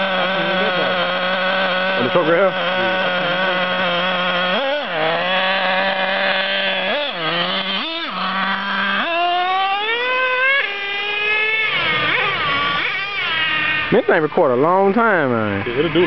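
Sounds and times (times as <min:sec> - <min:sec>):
small engine idling and revving: 0:00.0 - 0:16.0.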